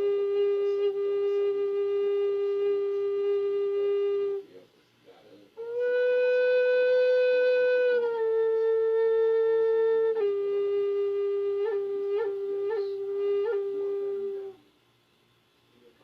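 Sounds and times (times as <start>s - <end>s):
flute playing slow notes: 0.0s - 4.6s, 5.6s - 14.8s.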